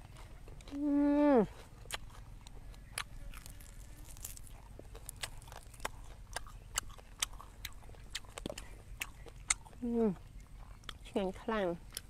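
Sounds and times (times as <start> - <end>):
chewing with clicks and crunches: 0.0 - 12.0.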